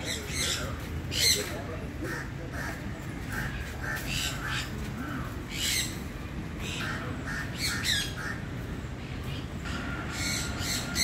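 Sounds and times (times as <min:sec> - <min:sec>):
parrots squawking: 0:00.0 - 0:08.5, 0:09.6 - 0:11.0.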